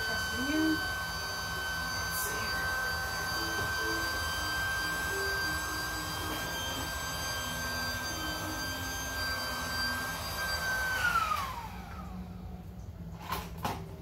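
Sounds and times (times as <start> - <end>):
electric air pump whining: 0.0 - 14.0.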